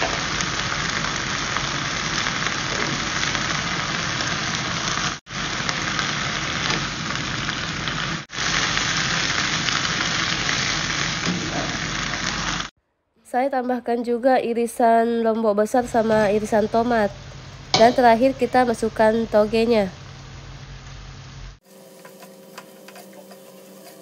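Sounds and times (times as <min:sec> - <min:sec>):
greens sizzling in hot oil: 0:00.0 - 0:12.7, 0:15.9 - 0:24.0.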